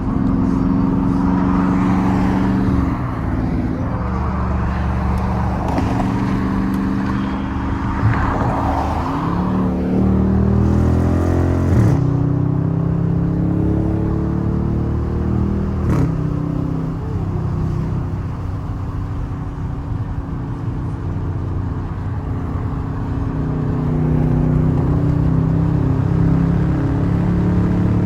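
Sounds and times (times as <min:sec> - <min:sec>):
car exhaust droning: 0:00.0 - 0:12.0, 0:12.6 - 0:28.0.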